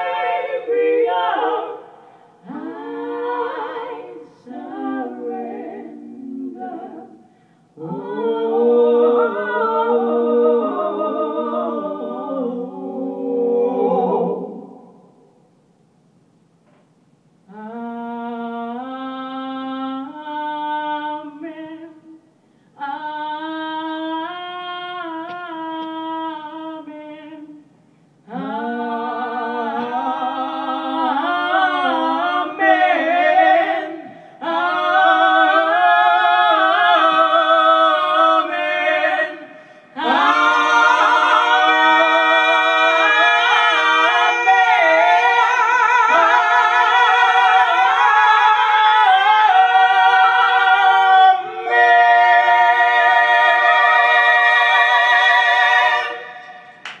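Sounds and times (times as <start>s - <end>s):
female trio singing a cappella: 0.0s - 15.4s, 17.5s - 56.8s.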